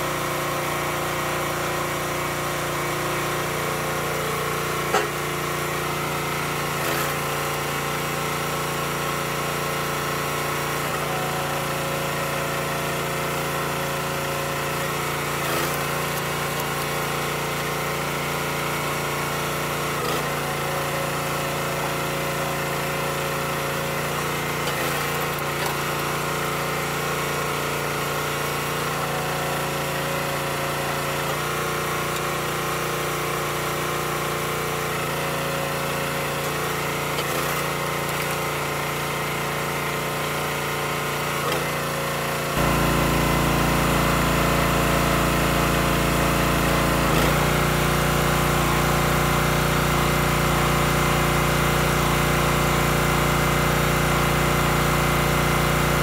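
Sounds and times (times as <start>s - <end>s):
small gas engine running: 0.0s - 56.0s.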